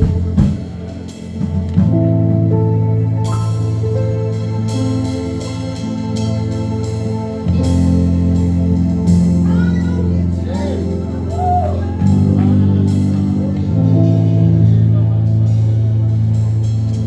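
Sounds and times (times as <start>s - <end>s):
gliding wavering melody: 0.0s - 17.0s
sustained low chords: 0.0s - 17.0s.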